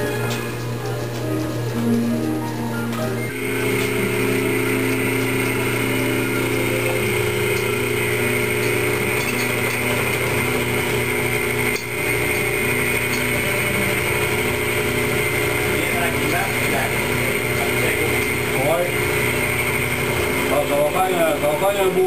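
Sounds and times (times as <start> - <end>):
milling machine cutting metal: 3.0 - 22.0.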